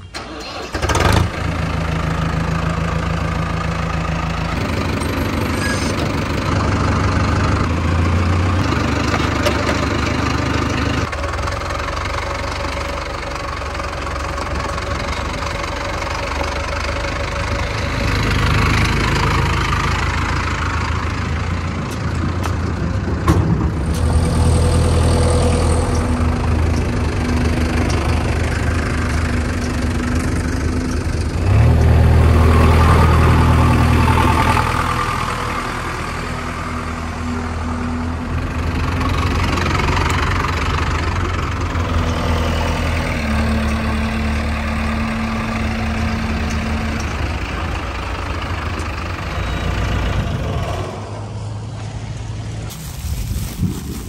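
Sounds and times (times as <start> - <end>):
tractor diesel engine idling: 0.0 - 52.8.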